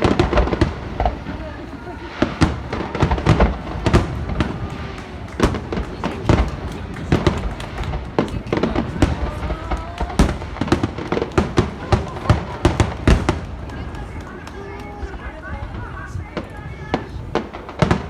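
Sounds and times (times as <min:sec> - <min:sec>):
fireworks booming and cracking: 0:00.0 - 0:18.0.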